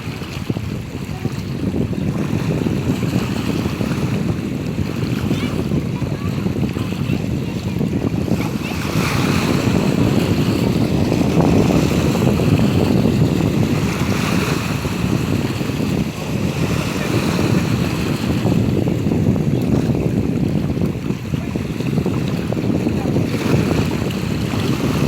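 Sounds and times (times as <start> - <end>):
waves washing onto shore: 0.0 - 25.0
wind buffeting microphone: 0.0 - 25.0.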